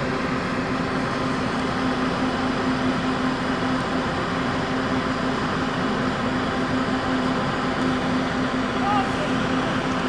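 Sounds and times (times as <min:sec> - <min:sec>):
coach diesel engine idling: 0:00.0 - 0:10.0.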